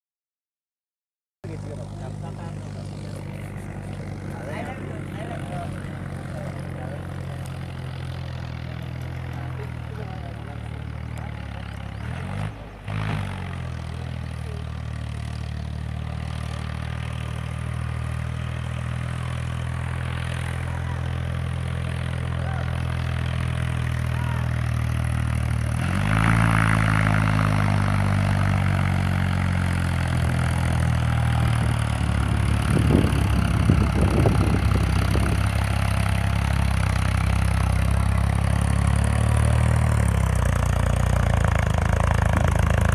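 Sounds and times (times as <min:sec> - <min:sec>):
tractor engine drone: 0:01.4 - 0:42.9.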